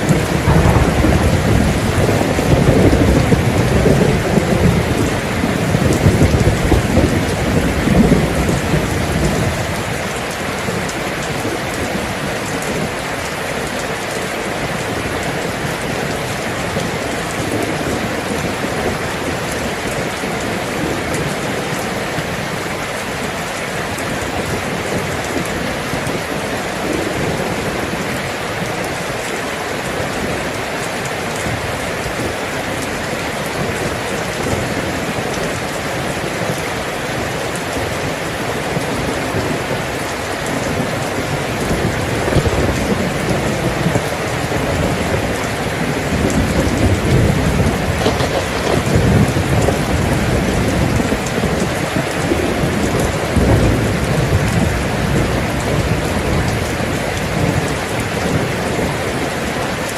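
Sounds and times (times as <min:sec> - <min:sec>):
low rolling thunder: 0:00.0 - 0:23.2, 0:24.0 - 0:30.5, 0:37.2 - 0:59.2
steady rain: 0:00.0 - 0:59.9.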